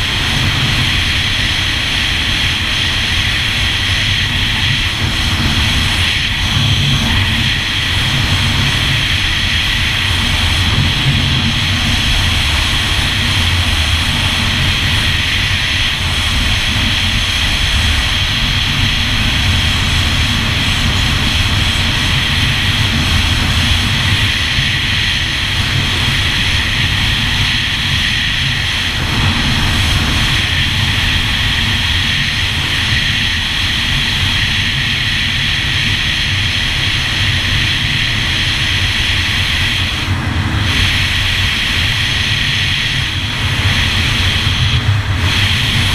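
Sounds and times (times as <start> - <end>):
watercraft engine running: 0.0 - 45.9.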